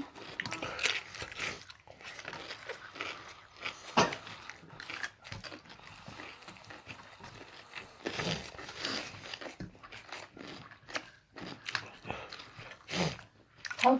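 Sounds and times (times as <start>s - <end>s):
chewing and biting: 0.0s - 13.9s.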